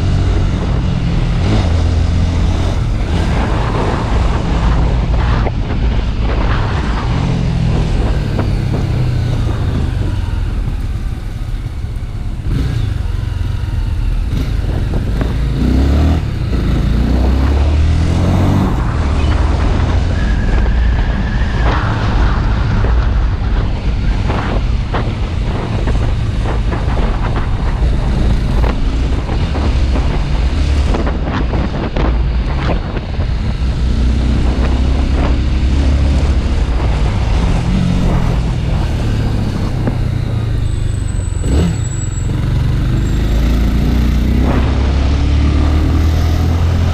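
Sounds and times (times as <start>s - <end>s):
motorcycle engine running: 0.0s - 20.8s, 21.6s - 46.9s.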